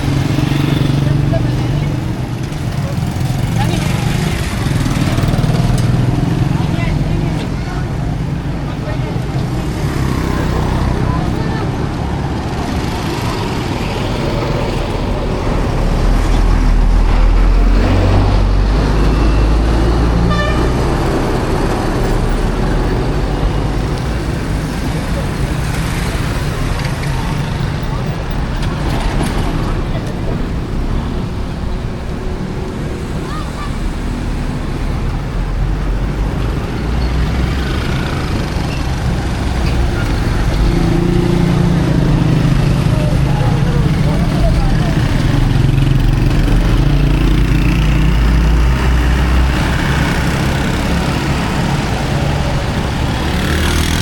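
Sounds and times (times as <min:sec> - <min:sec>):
street traffic: 0:00.0 - 0:54.0
vehicle engines running: 0:00.0 - 0:54.0.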